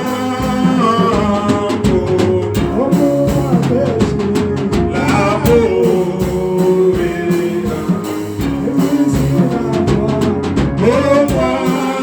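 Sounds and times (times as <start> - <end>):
bass line: 0.0 - 12.0
drum kit beat: 0.0 - 12.0.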